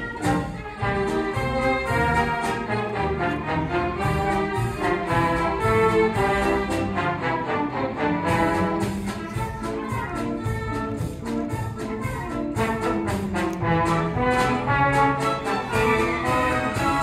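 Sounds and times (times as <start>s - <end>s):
orchestra brass: 0.0s - 17.0s
orchestra strings: 0.0s - 17.0s.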